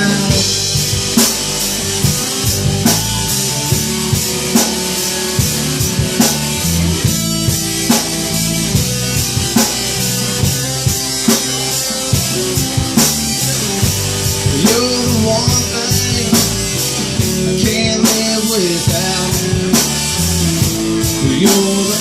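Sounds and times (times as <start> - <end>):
bass guitar: 0.0 - 22.0
drum kit steady beat: 0.0 - 22.0
electric guitar: 0.0 - 22.0.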